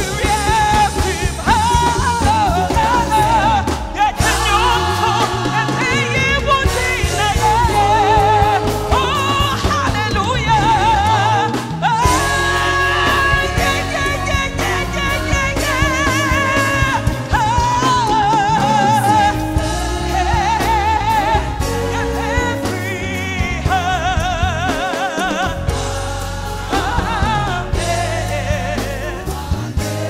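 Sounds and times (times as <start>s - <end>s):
band with bass and drums: 0.0s - 30.0s
person singing with vibrato: 0.0s - 30.0s.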